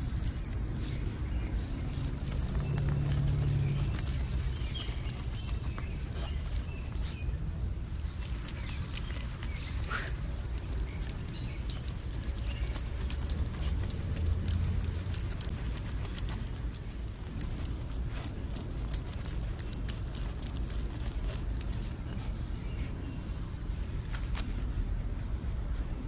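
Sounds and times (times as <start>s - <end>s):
dog claws scratching in dirt: 0.0s - 22.3s
low steady rumble: 0.0s - 26.0s.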